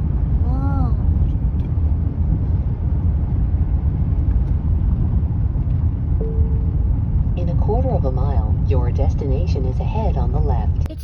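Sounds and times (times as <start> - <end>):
car driving cabin rumble: 0.0 - 11.0.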